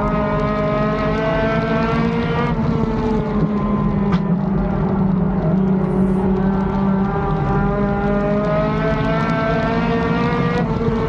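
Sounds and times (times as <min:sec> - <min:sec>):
race car engine under load: 0:00.0 - 0:11.0.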